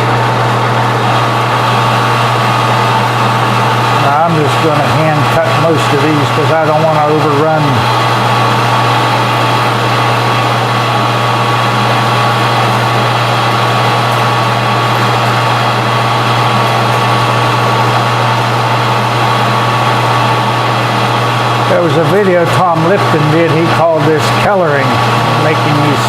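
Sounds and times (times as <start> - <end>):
metal lathe motor hum: 0.0 - 26.0.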